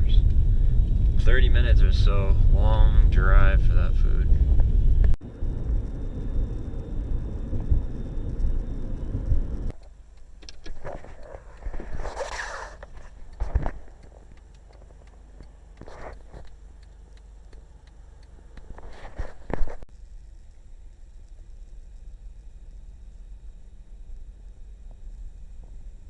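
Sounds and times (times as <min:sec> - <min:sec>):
road rumble inside car: 0:00.0 - 0:26.0.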